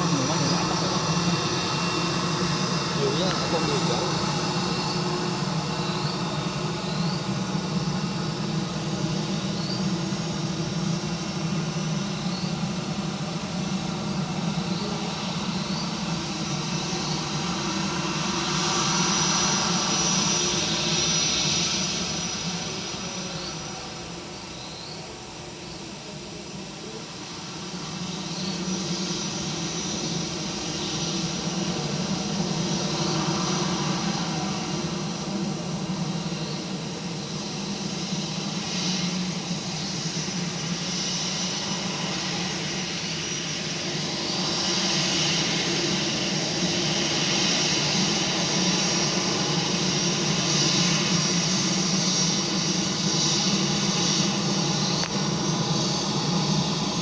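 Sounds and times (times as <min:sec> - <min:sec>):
plane flying over: 0:00.0 - 0:57.0.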